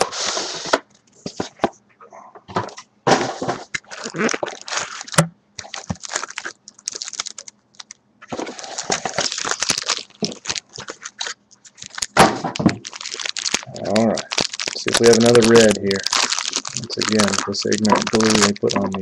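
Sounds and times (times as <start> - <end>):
foil wrappers crinkling: 3.4 - 19.0.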